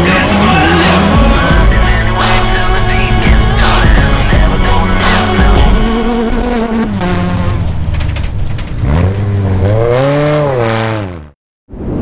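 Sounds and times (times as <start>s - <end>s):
buggy engine revving: 0.0s - 11.4s.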